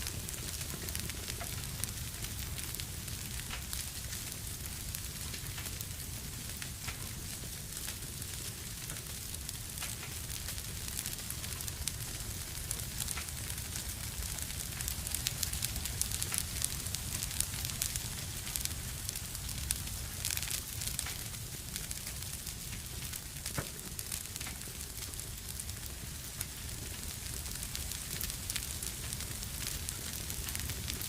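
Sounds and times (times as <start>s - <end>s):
fire crackling and popping: 0.0s - 31.0s
fire rumble and hiss: 0.0s - 31.0s.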